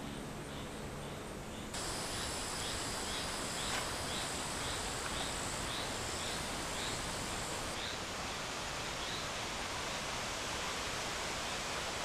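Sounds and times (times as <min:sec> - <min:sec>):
insects droning: 0:00.5 - 0:10.2.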